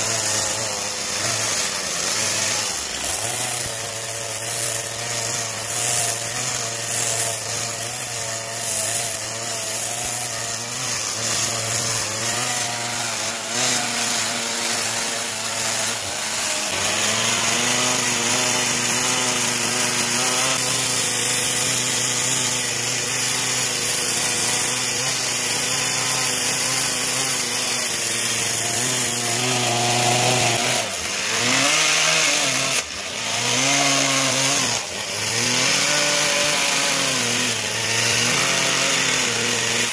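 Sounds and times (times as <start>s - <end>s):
chainsaw cutting into log: 0.0s - 39.9s.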